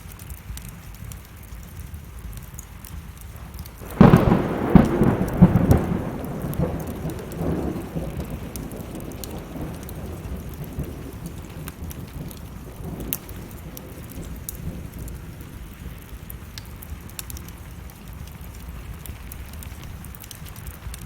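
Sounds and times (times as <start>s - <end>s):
crackling wood fire: 0.0s - 21.0s
steady rain: 0.0s - 21.0s
thunder rumbling: 3.4s - 21.0s.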